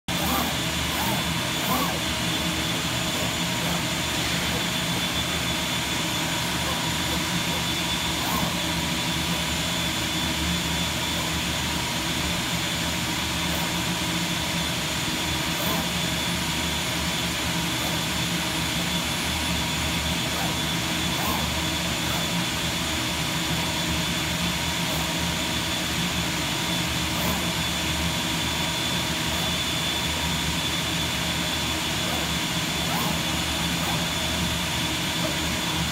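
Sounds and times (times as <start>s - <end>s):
cutting machine whooshing drone: 0.0s - 35.9s.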